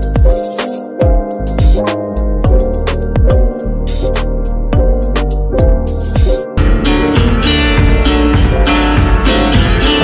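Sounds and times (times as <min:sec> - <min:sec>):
electronic beat music: 0:00.0 - 0:10.0
sustained keyboard chords: 0:00.0 - 0:10.0.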